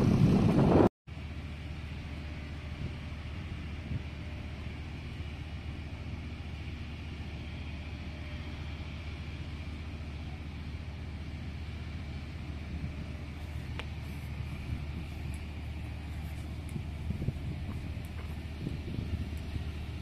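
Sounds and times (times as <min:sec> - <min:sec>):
low mechanical rumble with hiss: 0:00.0 - 0:20.0.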